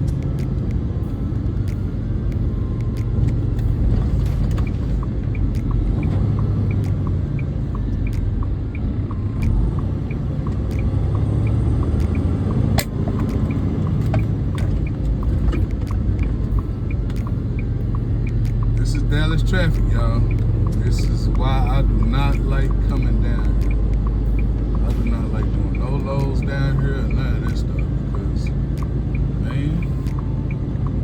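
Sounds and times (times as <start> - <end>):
diesel truck engine rumble: 0.0 - 31.0
light regular ticking: 0.0 - 31.0.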